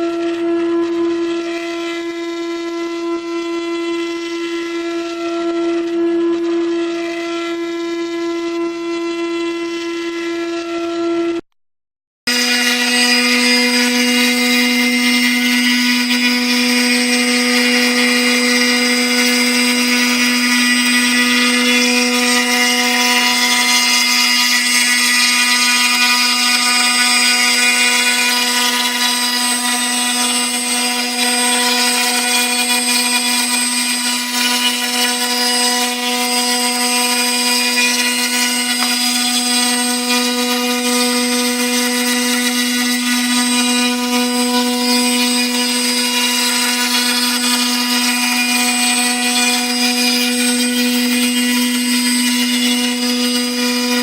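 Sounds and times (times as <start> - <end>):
router spindle whine: 0.0 - 11.4, 12.3 - 54.0.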